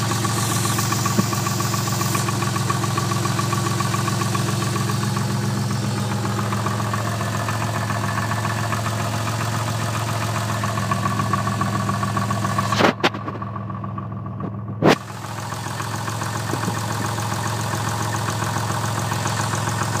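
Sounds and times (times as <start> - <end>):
car engine idling with light knocking: 0.0 - 20.0.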